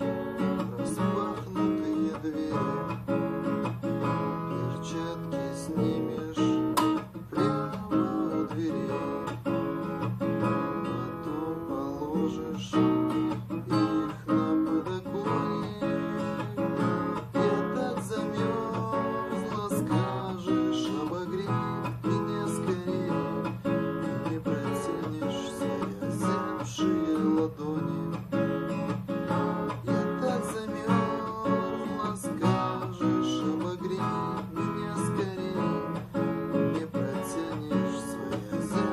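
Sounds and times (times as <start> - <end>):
guitar imitating bells: 0.0 - 38.9.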